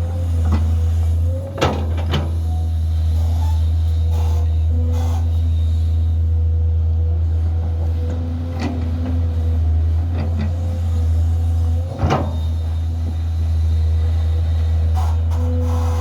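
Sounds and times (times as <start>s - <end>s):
bulldozer diesel engine hum: 0.0s - 16.0s.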